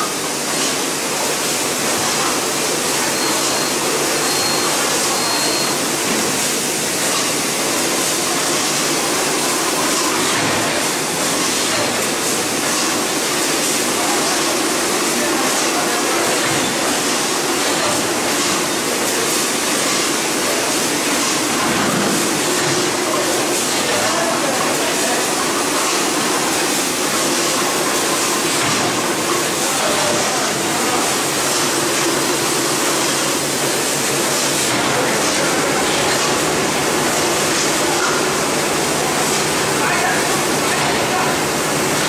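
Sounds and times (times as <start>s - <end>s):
machinery whirring and hissing: 0.0s - 42.0s.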